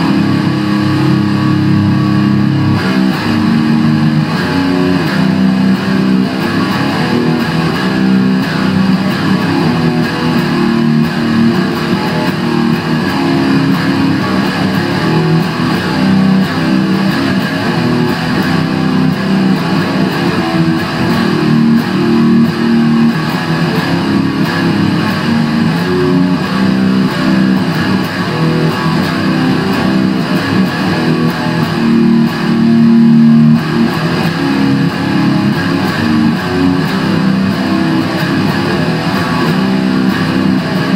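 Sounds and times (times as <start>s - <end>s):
heavy metal electric guitar: 0.0s - 40.9s.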